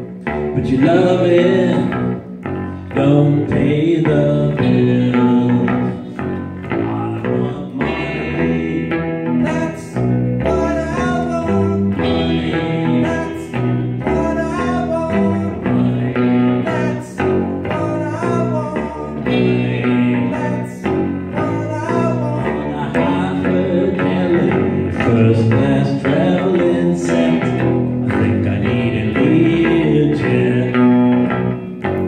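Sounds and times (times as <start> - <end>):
bass guitar: 0.0 - 32.0
electric guitar: 0.0 - 32.0.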